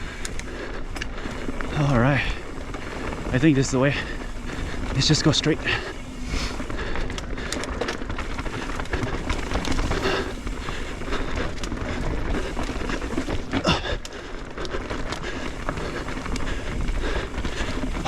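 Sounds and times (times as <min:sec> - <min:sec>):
bike clicks and clatter: 0:00.0 - 0:18.0
tyres crunching over dirt: 0:00.0 - 0:18.0.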